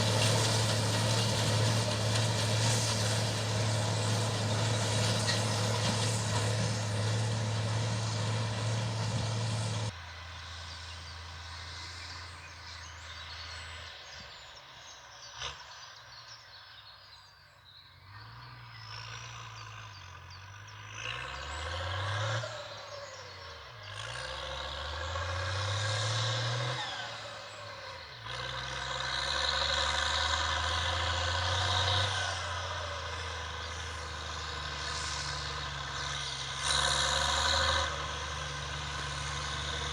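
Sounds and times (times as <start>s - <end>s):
tractor diesel engine revving: 0.0s - 12.8s, 18.2s - 39.9s.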